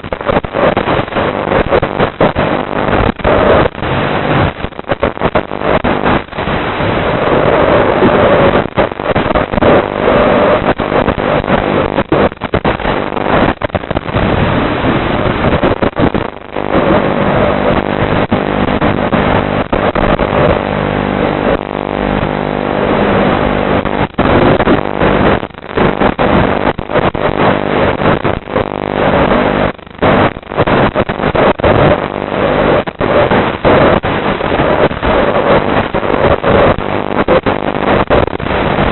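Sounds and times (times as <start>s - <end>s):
rushing air: 0.1s - 38.9s.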